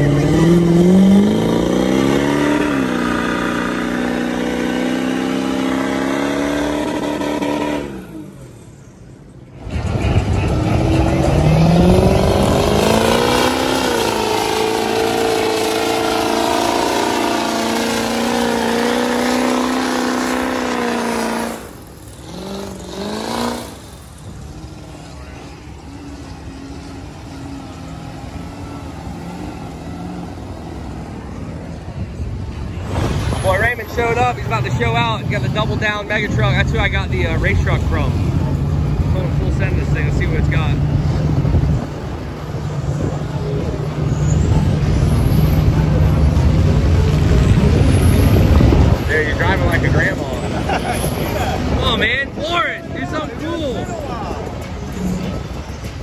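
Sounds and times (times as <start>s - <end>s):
truck engine pulling under throttle: 0.0s - 56.0s.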